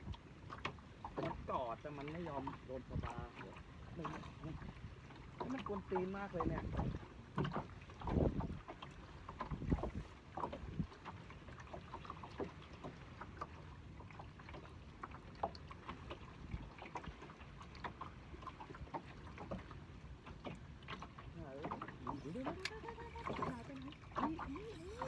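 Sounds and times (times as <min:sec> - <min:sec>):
water lapping at boat hull: 0:00.0 - 0:25.0.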